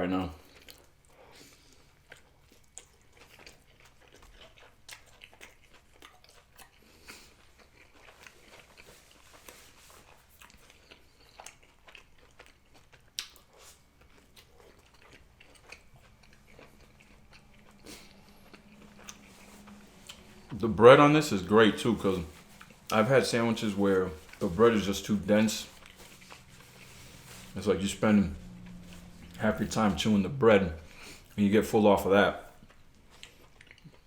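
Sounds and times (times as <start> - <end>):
chewing and biting sandwich: 0.4 - 31.5, 32.4 - 34.0.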